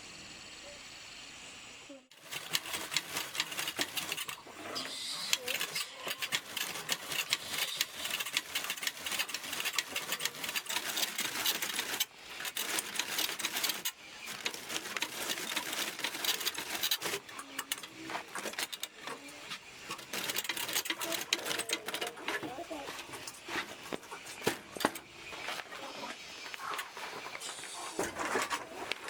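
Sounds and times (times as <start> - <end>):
rapid mechanical clattering: 2.1 - 27.4.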